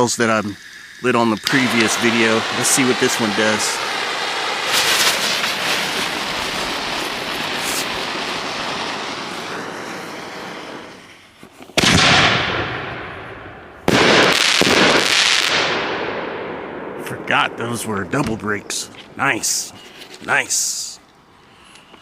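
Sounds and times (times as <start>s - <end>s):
firework hiss: 0.0s - 13.2s, 13.8s - 16.0s, 17.3s - 22.0s
sharp firework crack: 0.6s - 19.7s
firework bangs: 1.0s - 20.7s.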